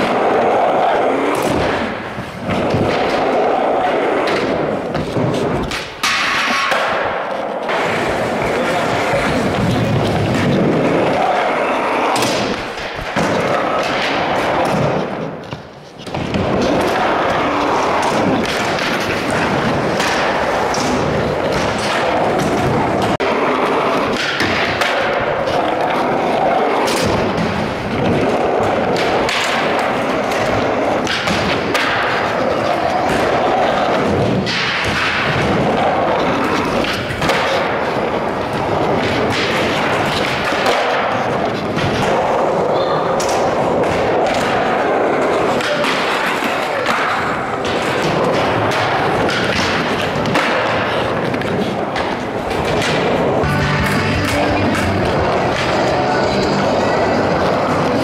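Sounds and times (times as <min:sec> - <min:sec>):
skateboard thuds and clacks: 0:00.0 - 0:58.0
skateboard wheels rumbling: 0:00.0 - 0:58.0.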